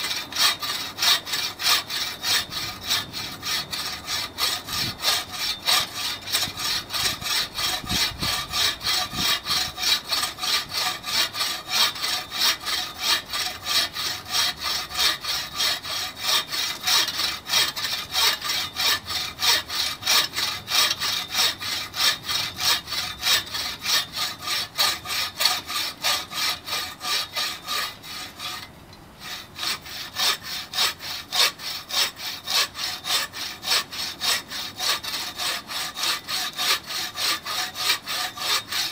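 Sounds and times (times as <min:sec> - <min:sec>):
saw cutting log: 0:00.0 - 0:38.9.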